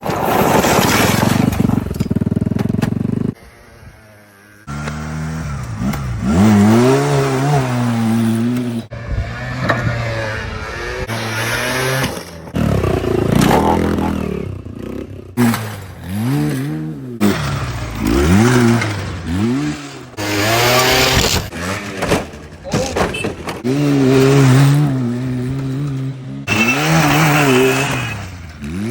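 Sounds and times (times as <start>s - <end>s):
motorcycle engines revving: 1.6s - 28.9s.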